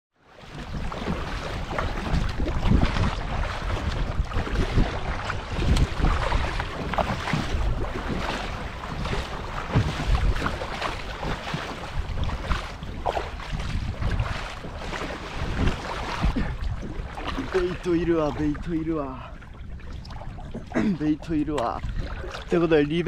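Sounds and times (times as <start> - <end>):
paddle splashing in water: 0.2 - 23.0
wind buffeting microphone: 0.4 - 23.0.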